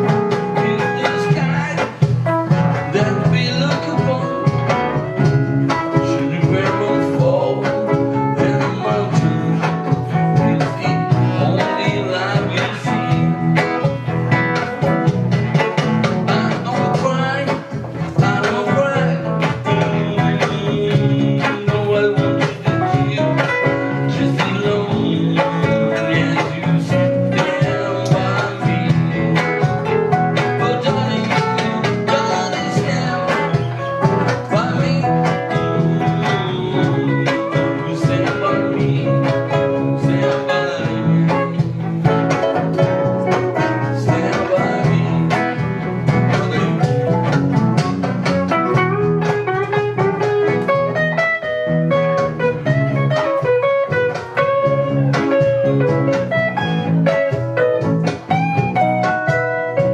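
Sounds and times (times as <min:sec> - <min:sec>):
guitar band playing: 0:00.0 - 0:59.9.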